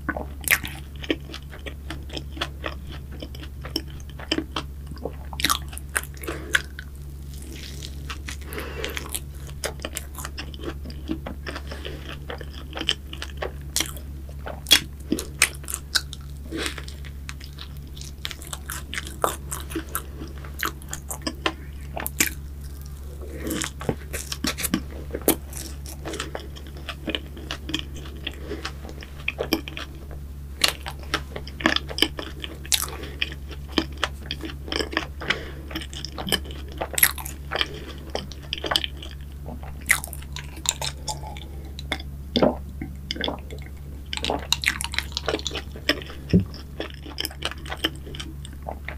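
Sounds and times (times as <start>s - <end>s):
person chewing crisp food: 0.0s - 48.9s
steady low hum: 0.0s - 48.9s.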